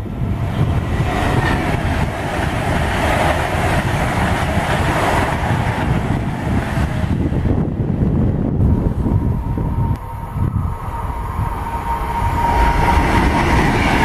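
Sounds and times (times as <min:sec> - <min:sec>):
train wheels rushing on rails: 0:00.0 - 0:14.0.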